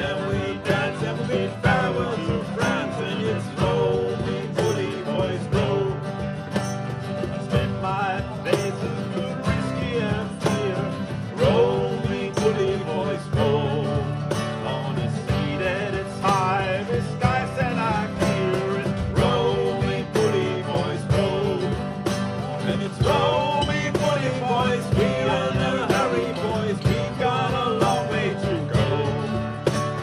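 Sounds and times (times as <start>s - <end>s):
acoustic guitars strumming: 0.0s - 30.0s
men singing: 0.0s - 30.0s.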